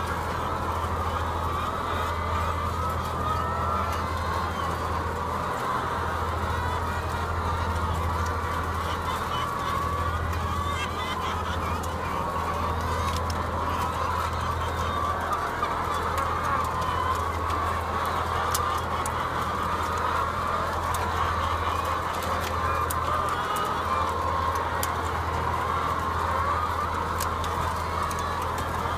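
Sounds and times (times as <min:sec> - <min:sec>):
hens clucking and calling: 0:00.0 - 0:28.9.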